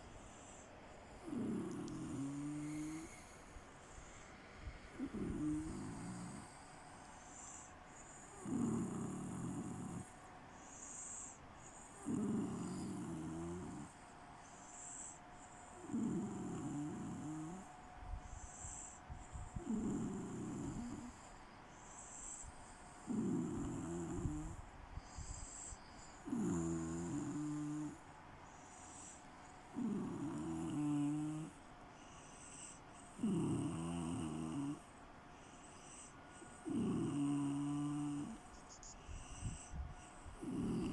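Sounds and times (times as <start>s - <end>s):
quiet breaths: 0.0s - 40.9s
loud low snoring: 1.2s - 3.4s, 4.8s - 14.0s, 14.7s - 17.7s, 18.3s - 21.3s, 22.0s - 28.0s, 28.9s - 31.7s, 32.3s - 34.9s, 35.7s - 40.9s.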